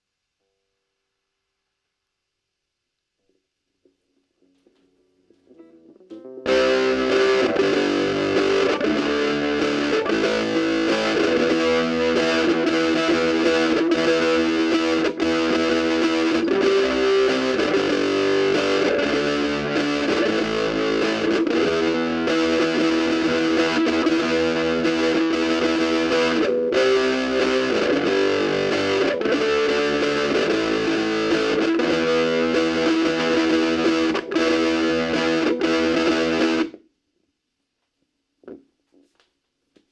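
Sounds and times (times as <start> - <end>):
distorted electric guitar: 4.3 - 36.8.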